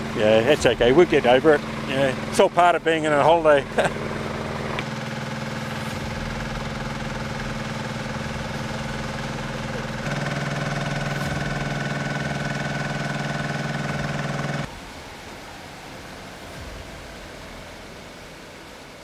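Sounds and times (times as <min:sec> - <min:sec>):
water pump engine running: 0:00.0 - 0:19.0.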